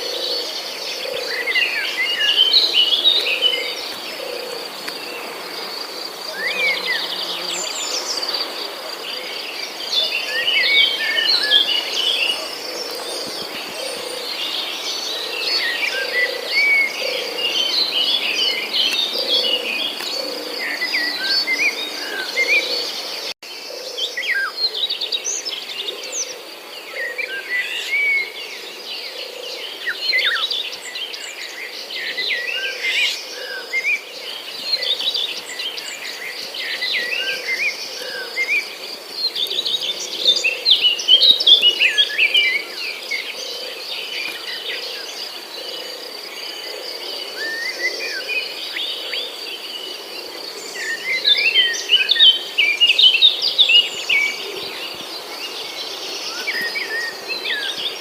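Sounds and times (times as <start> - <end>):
birds chirping: 0.0 - 24.6, 29.1 - 58.0.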